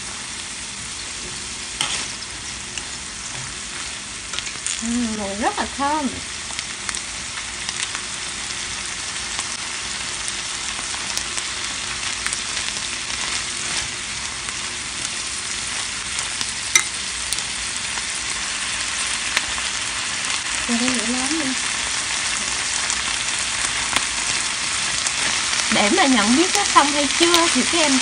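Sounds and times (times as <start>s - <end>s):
corn sizzling in butter: 0.0s - 28.0s.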